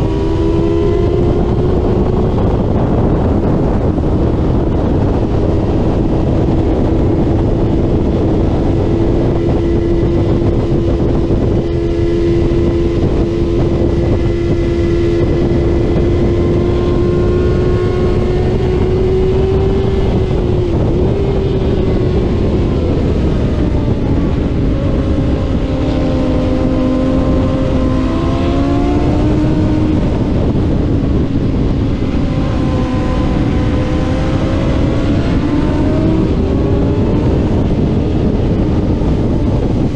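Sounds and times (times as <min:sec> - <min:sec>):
rush of wind: 0:00.0 - 0:39.9
superbike engine racing: 0:00.0 - 0:39.9.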